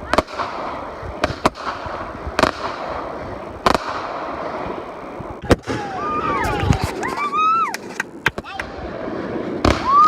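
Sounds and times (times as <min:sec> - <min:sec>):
firework bangs: 0:00.0 - 0:10.0
fireworks crackling: 0:00.0 - 0:10.0.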